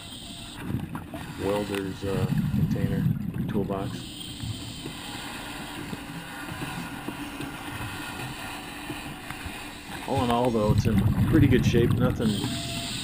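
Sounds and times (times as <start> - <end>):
underwater rumble and hiss: 0.0 - 13.0.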